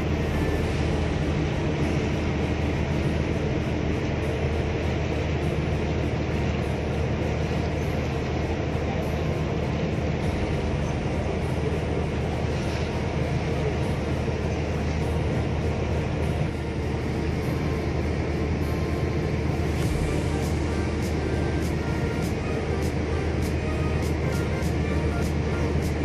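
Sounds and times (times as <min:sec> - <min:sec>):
boat engine droning: 0:00.0 - 0:26.0
wind and water hiss: 0:00.0 - 0:26.0.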